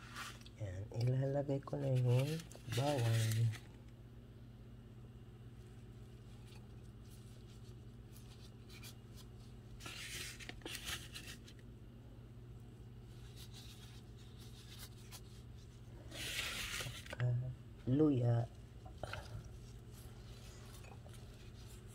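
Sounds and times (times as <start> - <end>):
soft rustling and scraping: 0.0 - 3.7, 5.6 - 11.6, 13.0 - 17.4, 18.4 - 21.9
faint steady hum: 0.0 - 21.9.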